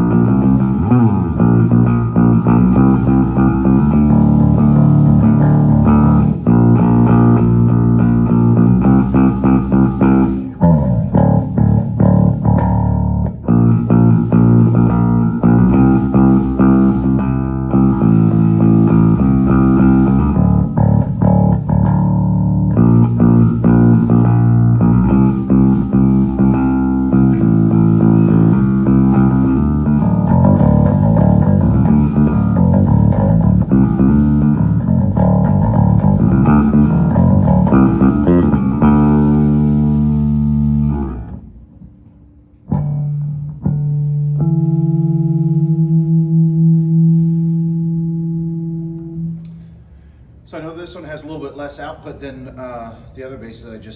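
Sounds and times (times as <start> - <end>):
electric bass notes: 0.0 - 50.5.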